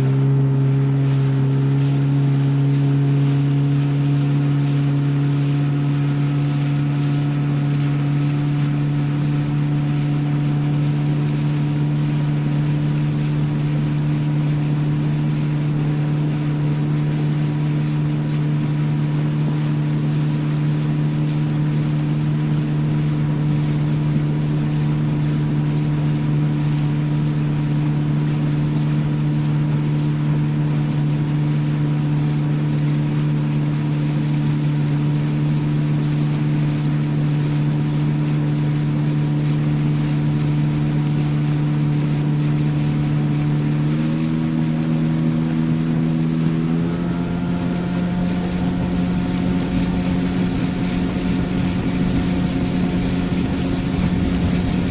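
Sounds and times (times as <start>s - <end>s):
motorboat engine running: 0.0s - 54.9s
rushing water: 0.0s - 54.9s
wind: 0.0s - 54.9s.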